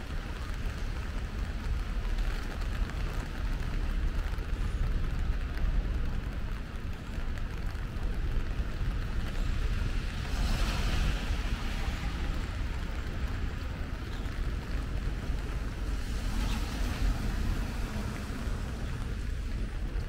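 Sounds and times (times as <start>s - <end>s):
car tyres hissing on wet pavement: 0.0s - 20.0s
low traffic rumble: 0.0s - 20.0s.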